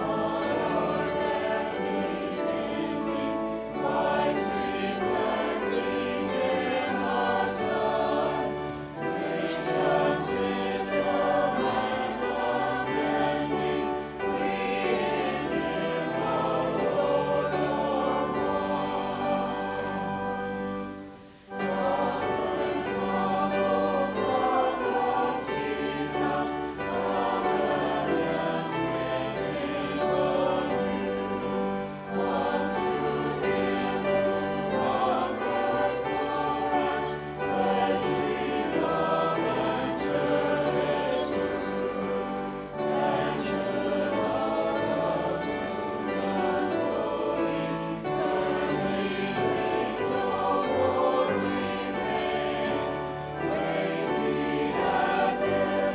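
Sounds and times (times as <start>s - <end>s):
choir and congregation singing hymn: 0.0s - 55.9s.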